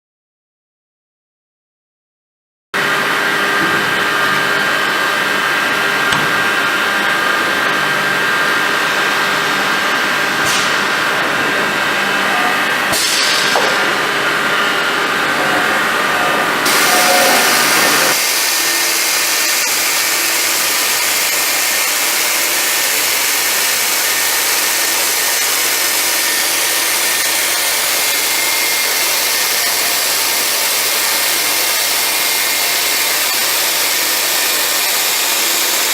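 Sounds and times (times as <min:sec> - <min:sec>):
cnc machine milling: 0:02.8 - 0:35.9.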